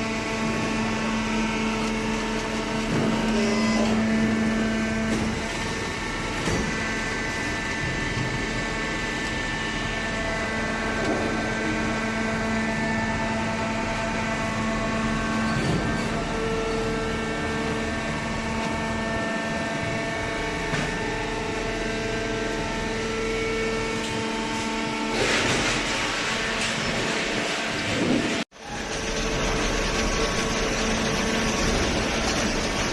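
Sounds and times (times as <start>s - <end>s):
baler machine hum: 0.0s - 32.9s.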